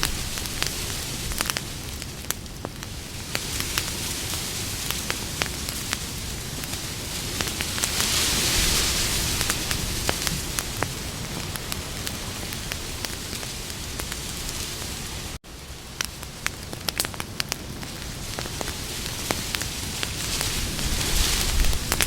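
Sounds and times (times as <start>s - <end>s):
campfire crackles and pops: 0.0s - 22.0s
flames hissing: 0.0s - 22.0s.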